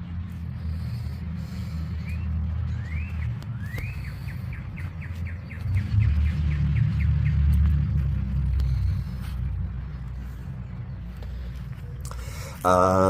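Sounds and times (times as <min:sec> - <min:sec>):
low rumble: 0:00.0 - 0:12.3
songbird singing: 0:00.2 - 0:13.0.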